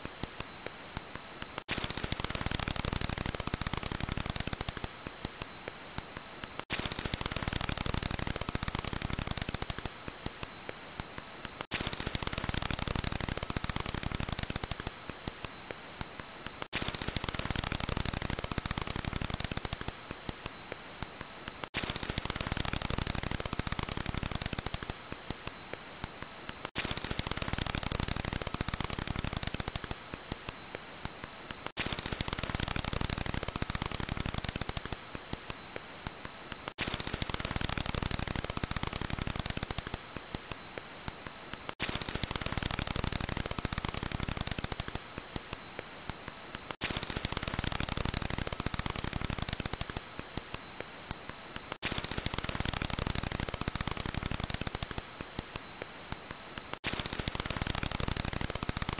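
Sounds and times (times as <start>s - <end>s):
bat echolocation clicks: 0.0s - 58.9s.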